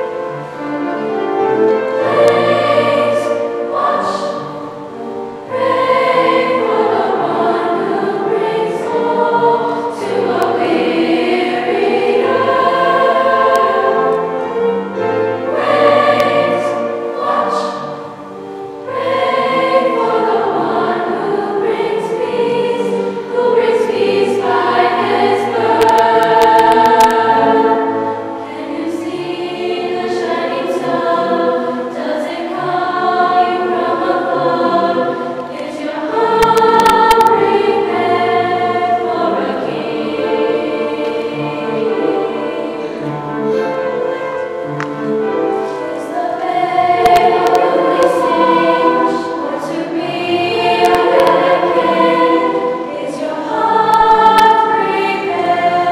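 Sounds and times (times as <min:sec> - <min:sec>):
mixed choir singing: 0:00.0 - 0:55.9.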